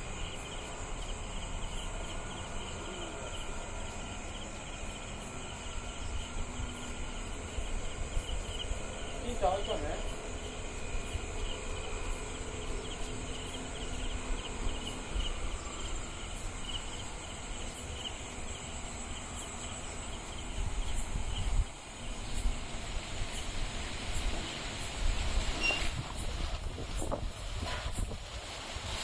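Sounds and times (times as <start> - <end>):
crickets chirping: 0.0 - 29.0
steady low rumble: 0.0 - 29.0.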